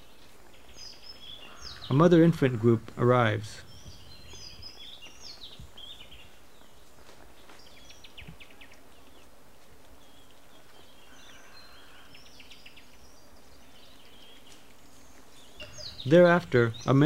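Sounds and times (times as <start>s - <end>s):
faint birds chirping: 0.0s - 17.0s
steady background hiss: 0.0s - 17.0s.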